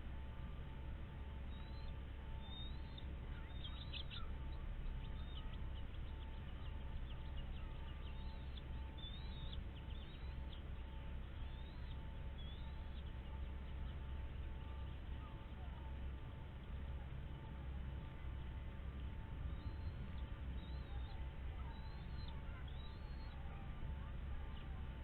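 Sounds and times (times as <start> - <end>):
faint steady hum: 0.0 - 25.0
steady low rumble: 0.0 - 25.0
birds chirping: 0.1 - 25.0.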